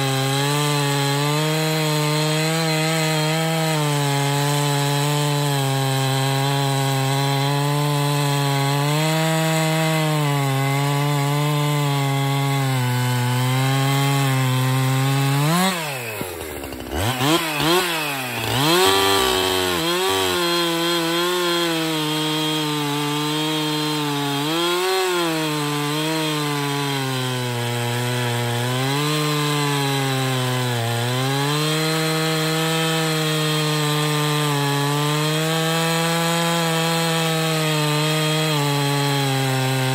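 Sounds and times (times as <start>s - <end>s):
chainsaw cutting log at full throttle: 0.0s - 39.9s.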